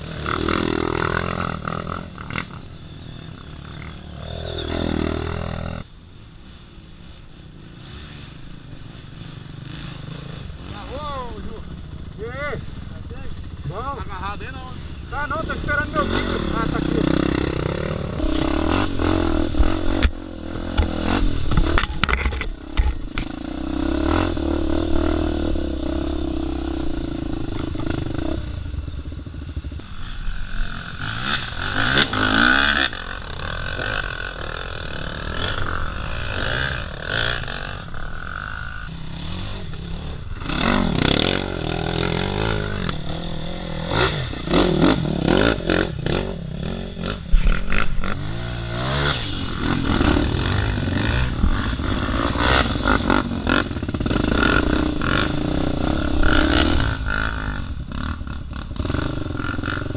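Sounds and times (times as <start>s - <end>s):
dirt bike engine revving: 0.0s - 5.9s, 7.6s - 59.9s.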